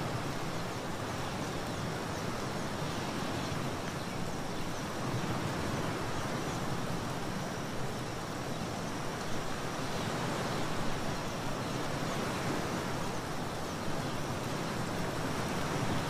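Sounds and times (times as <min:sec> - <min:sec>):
small waves lapping on sand: 0:00.0 - 0:16.0.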